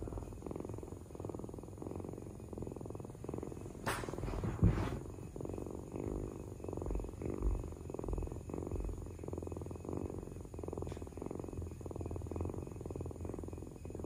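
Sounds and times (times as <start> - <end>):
kitten purring: 0.0 - 14.0.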